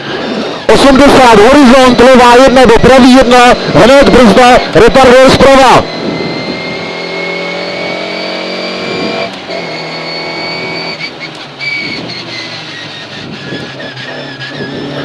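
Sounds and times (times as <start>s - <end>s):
car engine accelerating: 0.0s - 15.0s
thin high whine: 0.1s - 15.0s.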